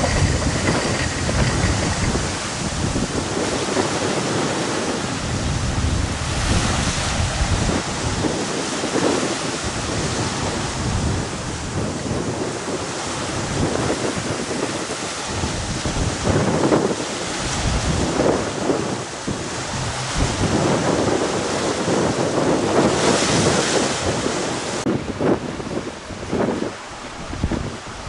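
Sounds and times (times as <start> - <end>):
choppy sea rushing: 0.0 - 28.0
wind buffeting the microphone: 0.0 - 28.0.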